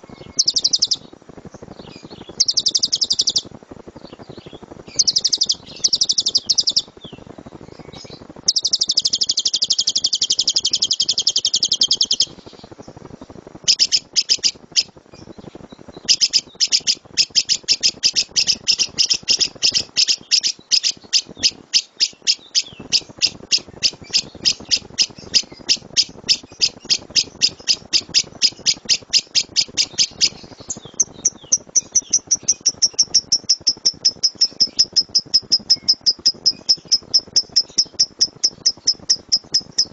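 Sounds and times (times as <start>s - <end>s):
high repeated bird chirps: 0.0s - 1.1s, 2.0s - 3.5s, 5.0s - 7.0s, 7.9s - 12.5s, 13.7s - 39.9s
lovebird chattering trill: 0.1s - 1.1s, 2.2s - 3.5s, 4.9s - 7.0s, 8.0s - 12.6s, 13.7s - 14.9s, 16.0s - 39.9s.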